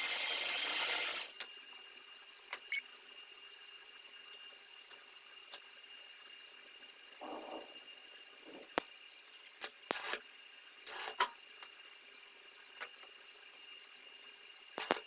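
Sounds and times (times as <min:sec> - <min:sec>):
faint steady hum: 0:01.2 - 0:15.0.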